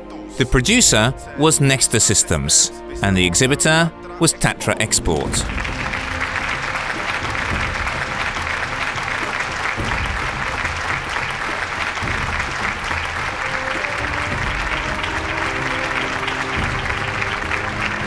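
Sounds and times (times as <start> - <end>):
background music: 0.0 - 18.0
audience applauding: 0.7 - 2.4, 4.4 - 18.0.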